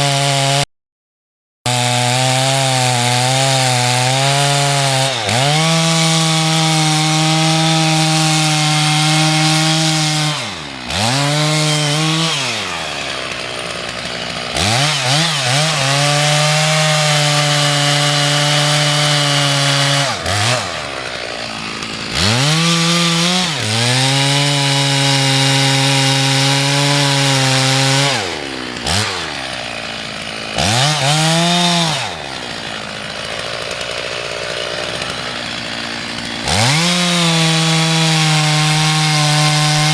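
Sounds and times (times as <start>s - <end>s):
chainsaw cutting wood: 0.0s - 0.7s, 1.7s - 39.9s.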